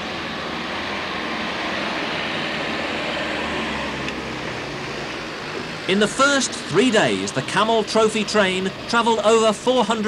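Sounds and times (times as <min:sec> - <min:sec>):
off-road vehicle engine drone: 0:00.0 - 0:10.0.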